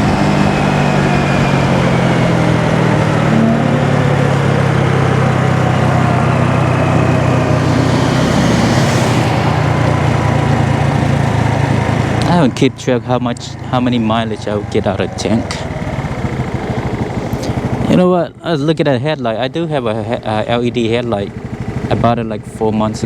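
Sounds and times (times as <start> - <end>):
road and wind noise: 0.0 - 23.0
small motorcycle engine running: 0.0 - 23.0.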